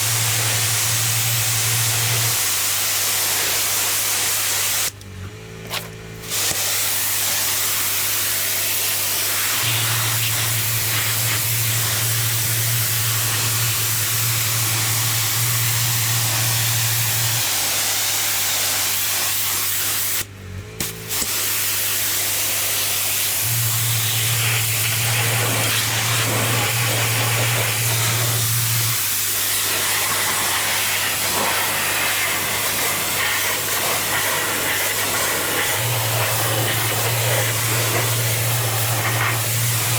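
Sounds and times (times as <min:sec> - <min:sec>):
pressure washer spray hissing: 0:00.0 - 0:04.9, 0:06.2 - 0:39.9.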